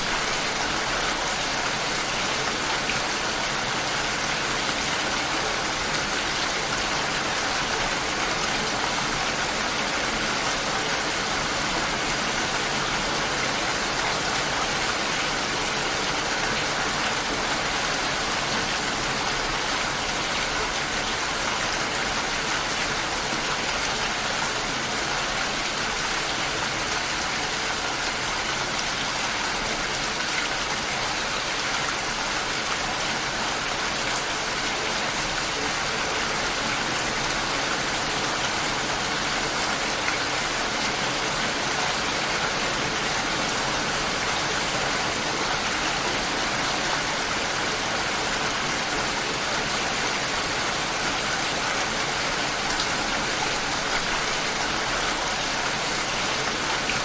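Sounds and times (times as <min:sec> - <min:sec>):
light rain falling: 0:00.0 - 0:57.0.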